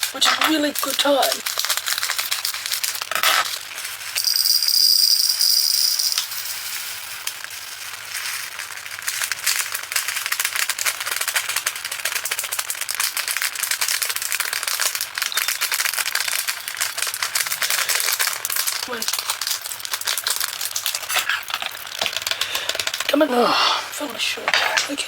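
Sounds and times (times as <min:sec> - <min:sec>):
tiny beads rattling in plastic container: 0:00.0 - 0:25.0.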